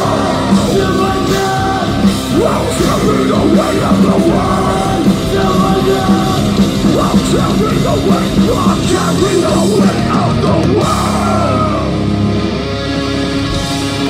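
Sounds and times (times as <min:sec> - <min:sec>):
screamed vocals: 0:00.0 - 0:12.2
metalcore band playing live: 0:00.0 - 0:14.0.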